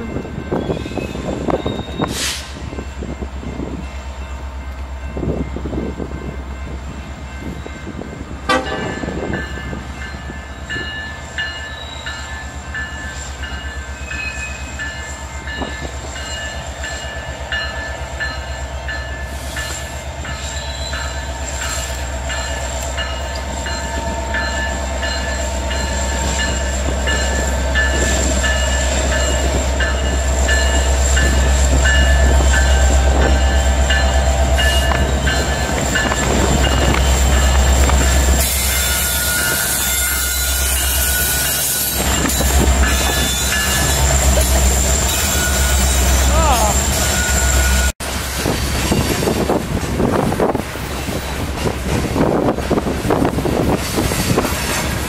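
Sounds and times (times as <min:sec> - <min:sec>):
locomotive bell ringing: 0:00.0 - 0:48.0
diesel locomotive engines rumbling: 0:00.0 - 0:55.0.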